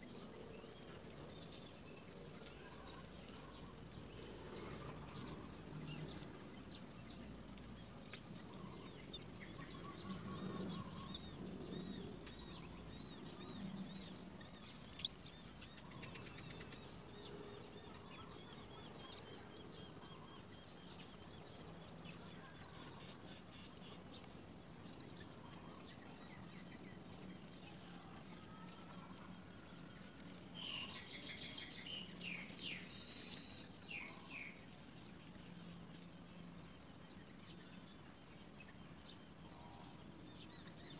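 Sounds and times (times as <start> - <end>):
outdoor background: 0.0 - 40.9
birds chirping: 5.1 - 40.9.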